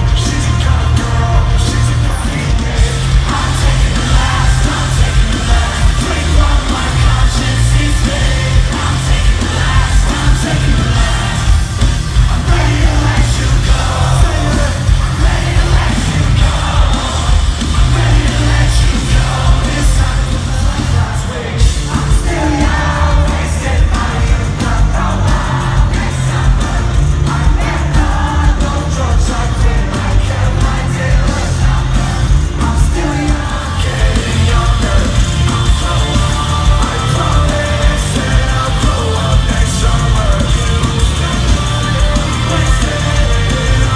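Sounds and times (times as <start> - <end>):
crowd yelling: 0.0 - 43.9
person singing: 0.0 - 43.9
rock band playing loud: 0.0 - 43.9.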